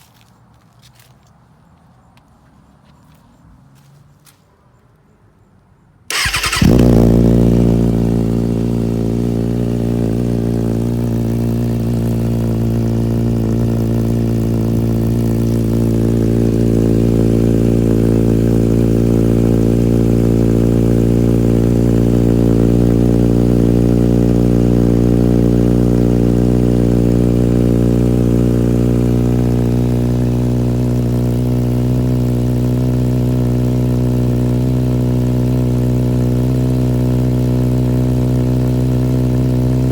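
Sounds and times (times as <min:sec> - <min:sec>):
motorcycle engine idling: 0:06.1 - 0:39.9.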